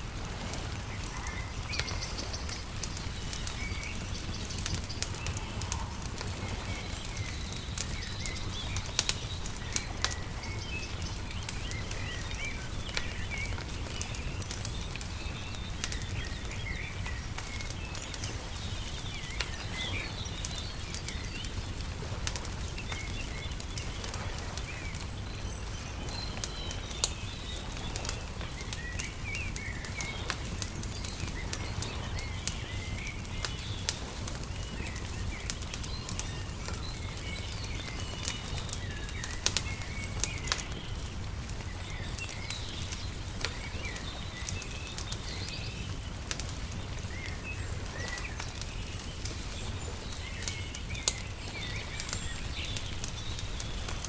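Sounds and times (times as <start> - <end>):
small birds chirping: 0.0 - 54.0
wood fire crackling and popping: 0.0 - 54.0.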